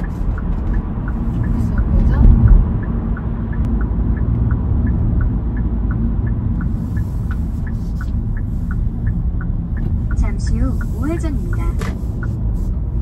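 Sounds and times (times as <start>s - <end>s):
car engine and tyres rumble: 0.0s - 13.0s
turn signal ticking: 0.0s - 13.0s.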